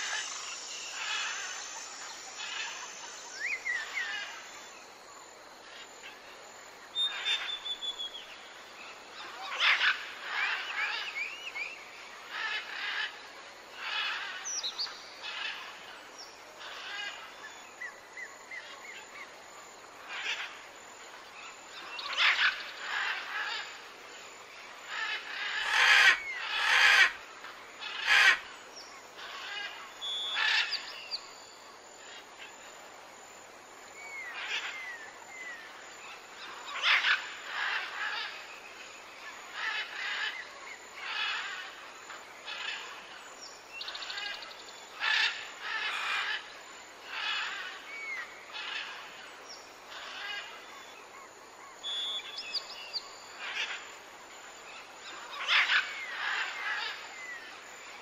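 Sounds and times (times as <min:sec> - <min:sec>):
birds calling and chirping: 0:00.0 - 0:04.4, 0:09.1 - 0:16.0, 0:16.6 - 0:19.2, 0:20.0 - 0:32.3, 0:34.0 - 0:58.0.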